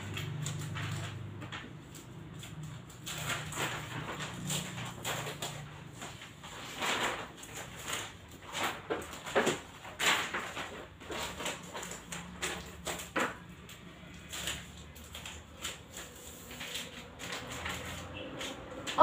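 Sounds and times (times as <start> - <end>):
paper sheets rustling and crackling: 0.0 - 19.0.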